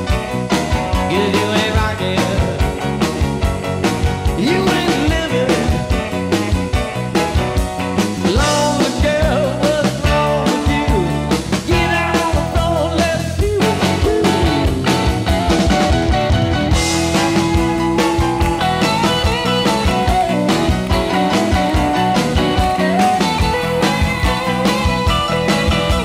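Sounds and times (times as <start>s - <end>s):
rock music: 0.0s - 26.0s.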